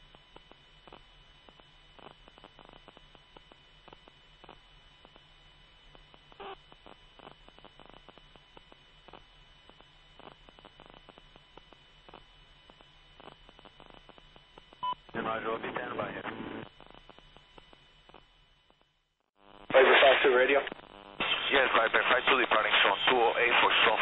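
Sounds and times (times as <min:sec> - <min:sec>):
faint crackles: 0:00.0 - 0:24.0
radio static hum: 0:00.0 - 0:24.0.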